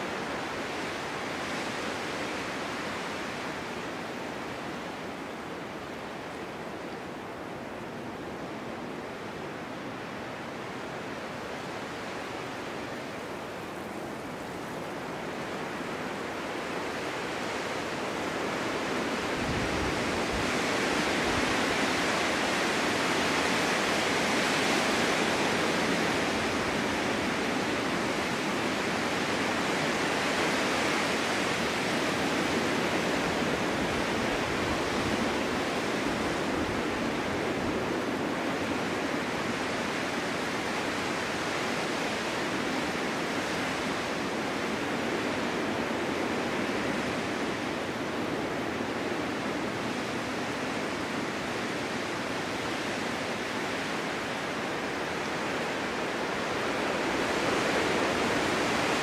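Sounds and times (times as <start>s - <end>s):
snowstorm wind blowing: 0.0s - 59.0s.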